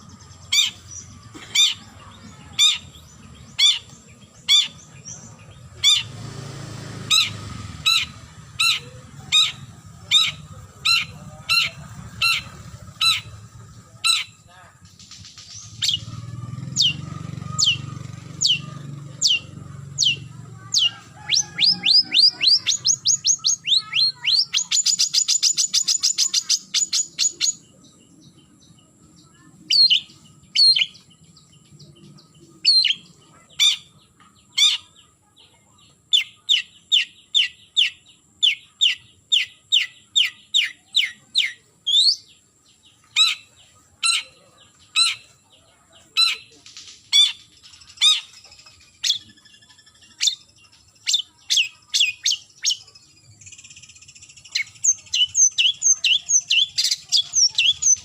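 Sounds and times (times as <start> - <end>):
shrike calling: 0.0 - 28.4, 29.2 - 35.2, 36.1 - 58.0.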